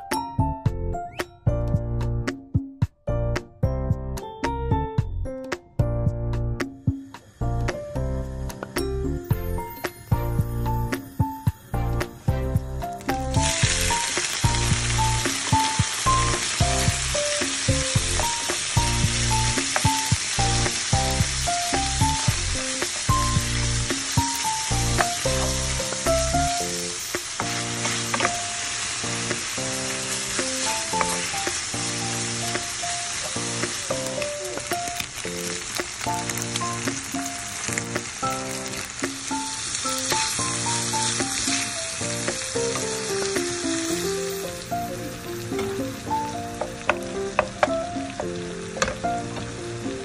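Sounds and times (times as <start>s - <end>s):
background music: 0.0s - 50.0s
pork sizzling in hot oil: 5.8s - 50.0s.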